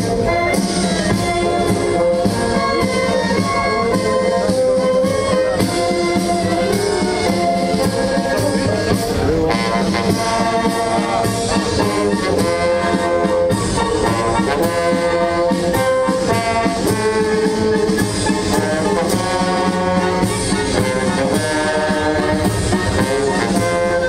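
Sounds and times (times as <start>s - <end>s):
brass band playing a march: 0.0s - 24.0s.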